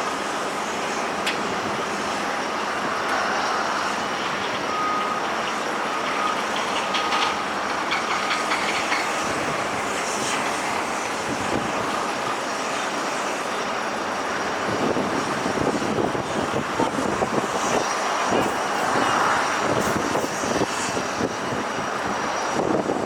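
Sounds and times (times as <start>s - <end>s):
aircraft engines: 0.0s - 23.0s
ground vehicles: 0.0s - 23.0s.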